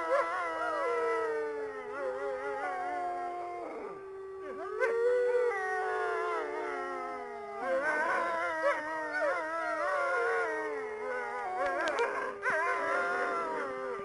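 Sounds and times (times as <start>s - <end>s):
wolves howling in chorus: 0.0s - 14.0s.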